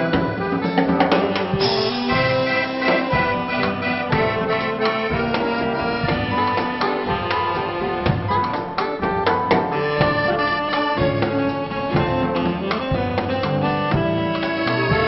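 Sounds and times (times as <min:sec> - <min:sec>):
accordion: 0:00.0 - 0:15.0
dance band playing: 0:00.0 - 0:15.0.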